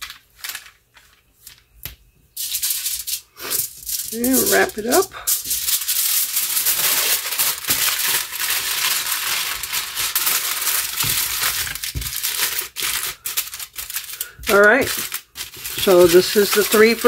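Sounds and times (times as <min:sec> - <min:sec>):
aluminium foil crinkling: 0:00.0 - 0:01.8, 0:02.4 - 0:17.0.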